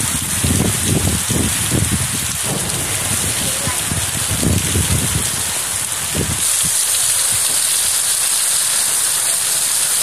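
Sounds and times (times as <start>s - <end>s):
low rumbles: 0.0s - 8.8s
heavy rain pouring: 0.0s - 10.0s.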